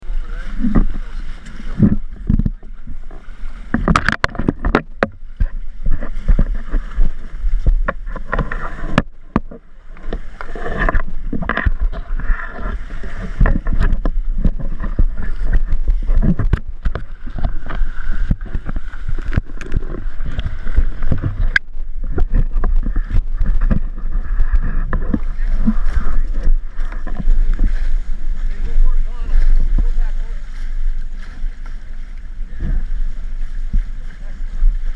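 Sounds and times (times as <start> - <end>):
water rushing past hulls: 0.0 - 34.9
wind buffeting microphone: 0.0 - 34.9.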